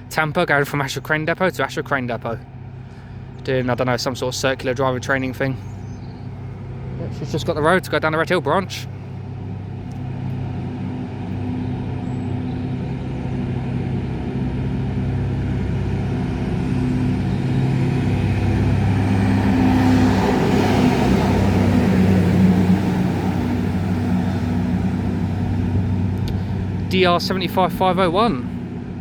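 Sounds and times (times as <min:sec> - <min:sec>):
diesel engine drone passing: 0:00.0 - 0:29.0.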